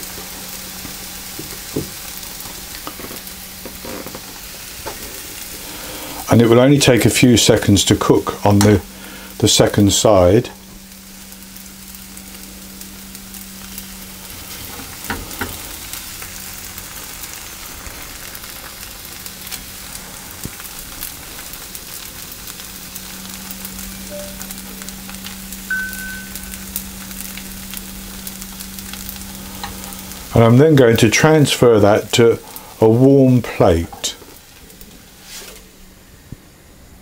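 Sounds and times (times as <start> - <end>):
batter sizzling in frying pan: 0.0 - 37.0.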